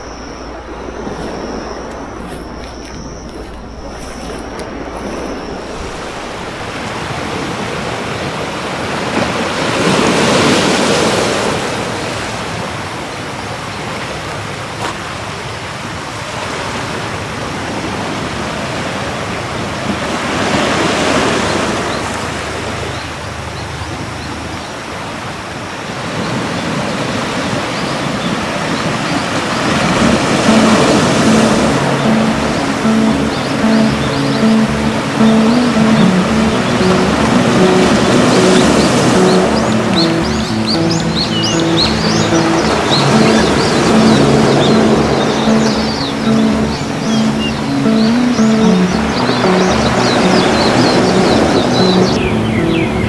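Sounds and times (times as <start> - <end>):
sea waves breaking: 0.0 - 53.0.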